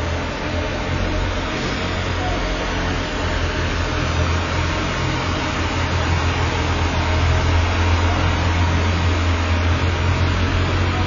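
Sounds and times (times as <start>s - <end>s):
ice resurfacer engine hum: 0.0s - 11.0s.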